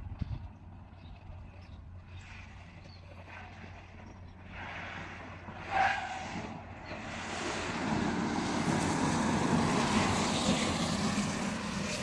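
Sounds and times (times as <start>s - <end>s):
road and wind noise inside car: 0.0s - 12.0s.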